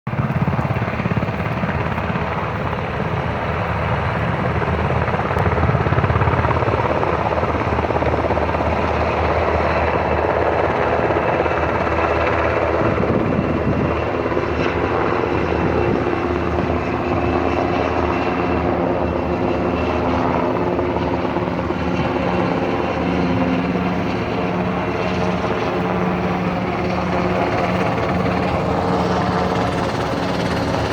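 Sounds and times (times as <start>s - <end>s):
helicopter rotor and engine: 0.0s - 30.9s.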